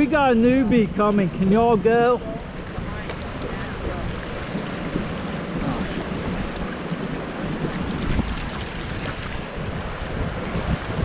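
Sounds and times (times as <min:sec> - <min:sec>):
river rapid rushing water: 0:00.0 - 0:11.0
wind buffeting microphone: 0:00.0 - 0:11.0.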